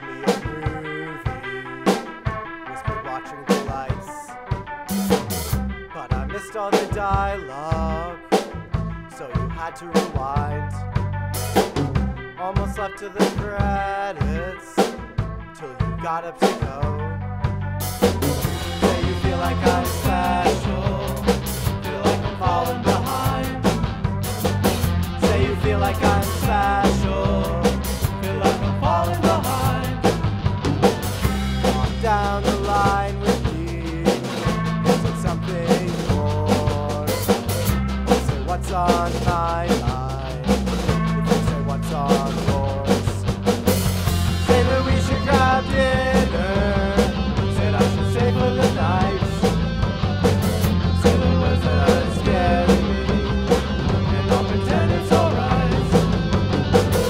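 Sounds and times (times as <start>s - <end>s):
drum kit: 0.0s - 57.0s
electric guitar: 0.0s - 57.0s
keyboard: 0.0s - 57.0s
rock band playing live: 0.0s - 57.0s
electric bass: 3.8s - 57.0s.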